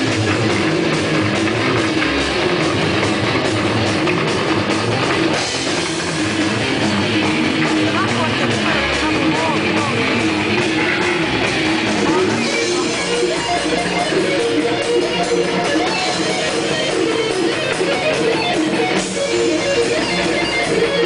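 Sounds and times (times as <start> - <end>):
heavy metal band playing: 0.0 - 21.0.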